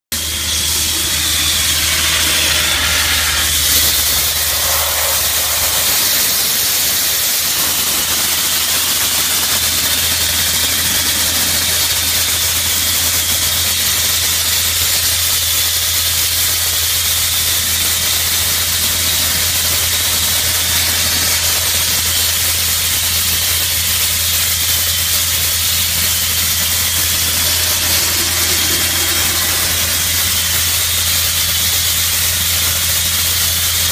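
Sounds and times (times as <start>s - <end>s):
blasting nozzle hissing: 0.2s - 15.0s, 16.0s - 32.6s.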